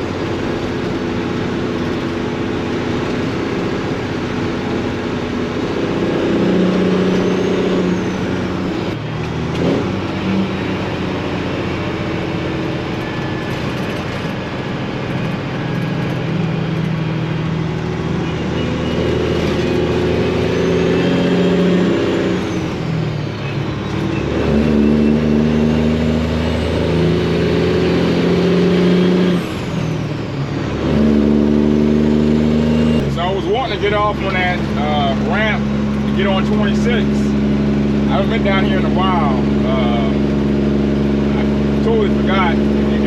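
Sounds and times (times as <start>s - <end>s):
diesel truck engine under load: 0.0s - 43.0s.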